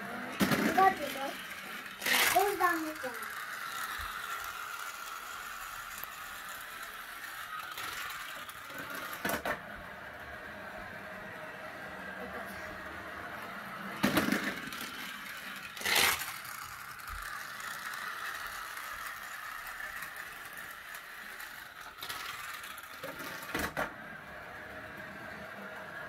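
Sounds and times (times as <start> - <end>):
toy car motor whirring: 0.0 - 26.0.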